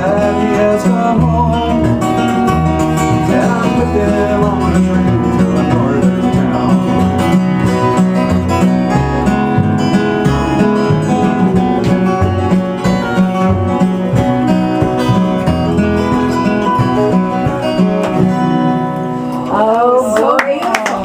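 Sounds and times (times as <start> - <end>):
fingerpicked acoustic guitar: 0.0 - 20.2.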